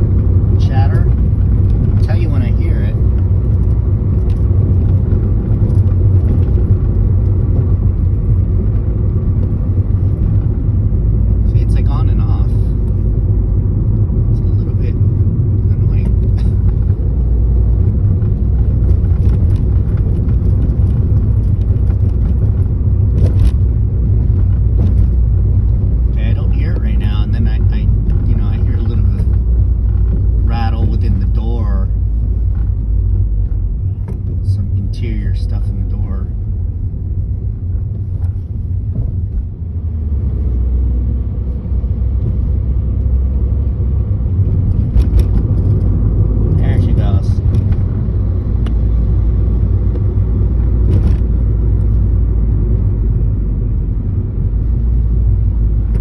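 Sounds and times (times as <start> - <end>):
interior trim rattle: 0.0 - 56.0
road and engine rumble: 0.0 - 56.0.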